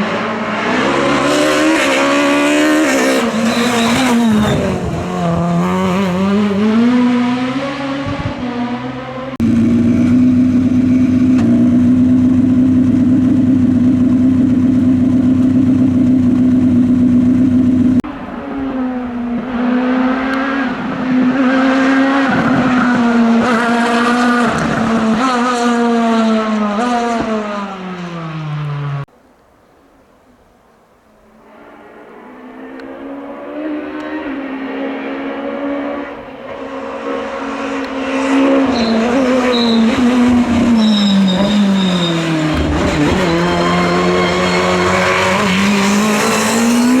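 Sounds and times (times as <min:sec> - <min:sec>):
car accelerating through gears: 0:00.0 - 0:13.1, 0:17.9 - 0:28.8, 0:31.7 - 0:47.0
rally car engine revving: 0:00.0 - 0:29.1, 0:31.5 - 0:47.0.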